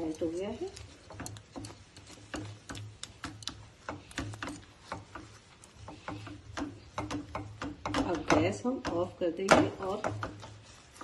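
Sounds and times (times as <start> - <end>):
spoon scraping nonstick pan: 0.0 - 11.0.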